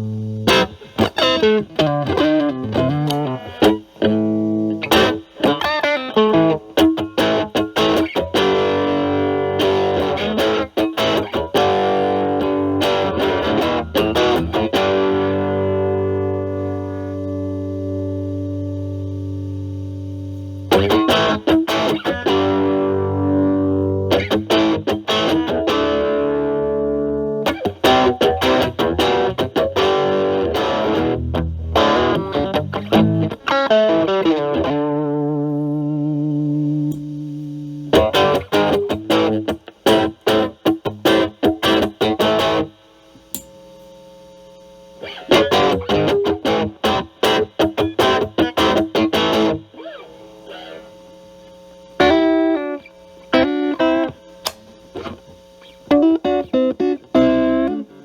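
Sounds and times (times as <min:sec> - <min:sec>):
overdriven electric guitar: 0:00.0 - 0:43.5, 0:44.7 - 0:58.0.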